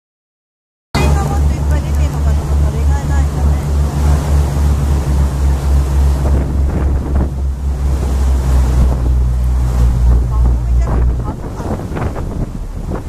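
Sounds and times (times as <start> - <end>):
boat engine humming: 1.0 - 13.0
water rushing past hull: 1.0 - 13.0
wind buffeting microphone: 1.0 - 13.0.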